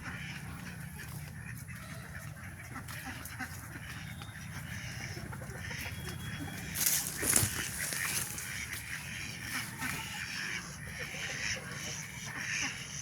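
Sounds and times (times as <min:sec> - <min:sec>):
chickens clucking and squawking: 0:00.0 - 0:13.0.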